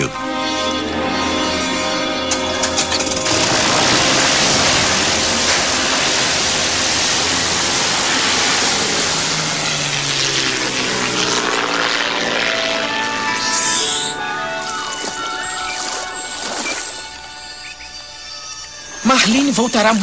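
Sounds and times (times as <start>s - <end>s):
propeller airplane engine: 0.0s - 19.3s.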